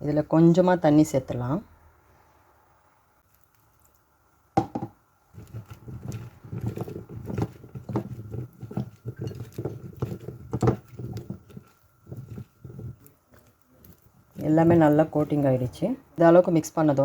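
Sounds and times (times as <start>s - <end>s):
florets mixed in batter: 0.0s - 17.0s.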